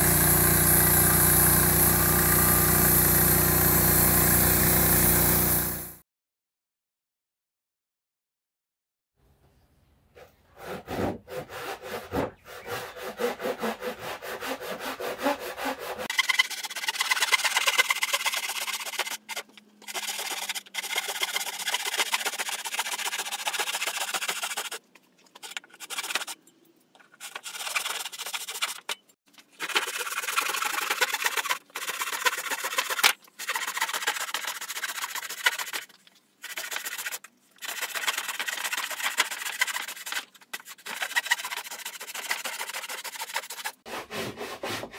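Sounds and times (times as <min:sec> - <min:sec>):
hand saw ripping wood: 0:00.0 - 0:05.9, 0:10.6 - 0:26.4, 0:27.0 - 0:44.9.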